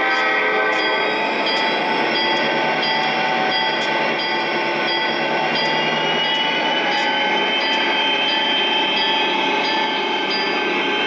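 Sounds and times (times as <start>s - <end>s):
model locomotive diesel sound: 0.0s - 11.0s.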